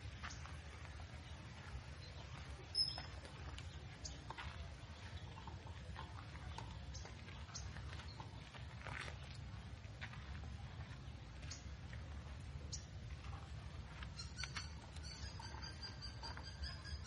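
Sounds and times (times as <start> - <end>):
footsteps on a trail: 0.0 - 17.0.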